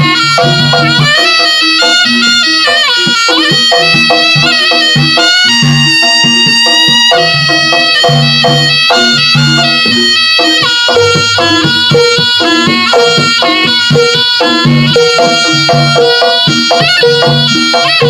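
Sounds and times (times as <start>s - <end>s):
drum strokes: 0.0s - 18.0s
shrill reedy wind instrument: 0.0s - 18.0s.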